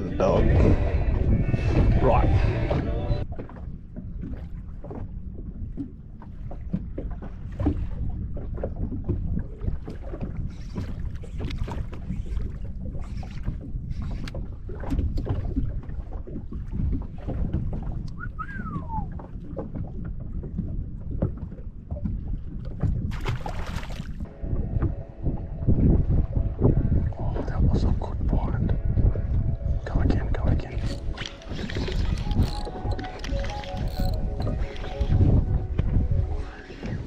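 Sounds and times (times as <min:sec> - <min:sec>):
water slapping boat hull: 0:00.0 - 0:37.0
wind buffeting microphone: 0:00.0 - 0:37.0.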